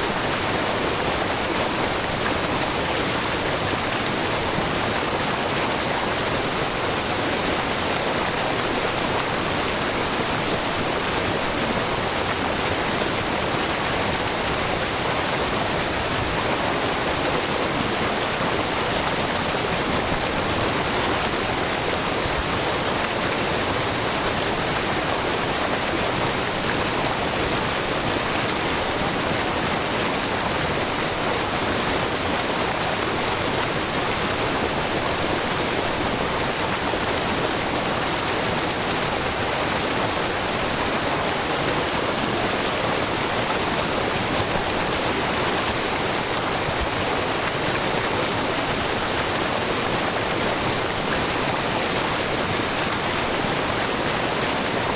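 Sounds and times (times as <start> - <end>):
waterfall rushing and splashing: 0.0 - 54.9.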